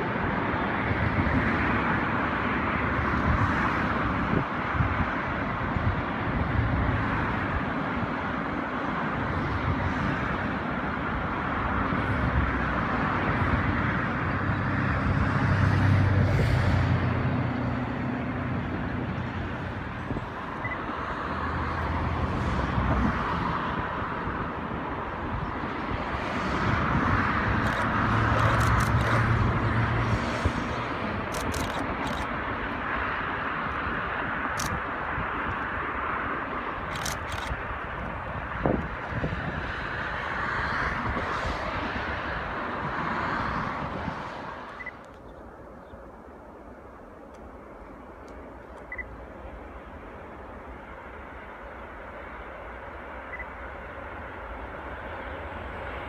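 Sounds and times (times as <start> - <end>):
freight train rumbling over bridge: 0.0 - 28.4, 37.6 - 56.0.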